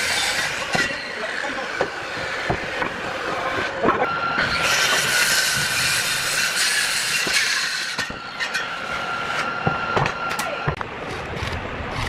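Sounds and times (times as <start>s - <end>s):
circular saw cutting wood: 0.0s - 12.0s.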